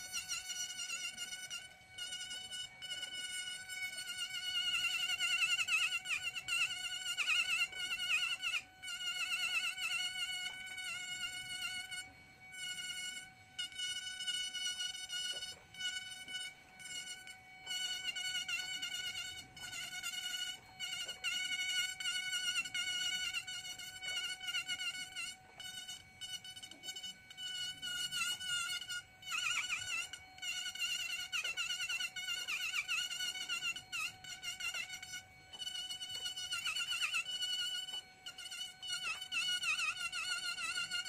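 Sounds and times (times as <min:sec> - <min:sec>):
rotary tool grinding wood: 0:00.0 - 0:41.0.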